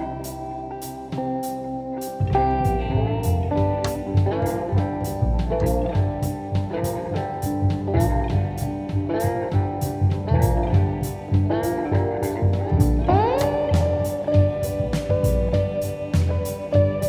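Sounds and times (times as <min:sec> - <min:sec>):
bluesy guitar music with drums: 0:00.0 - 0:17.0.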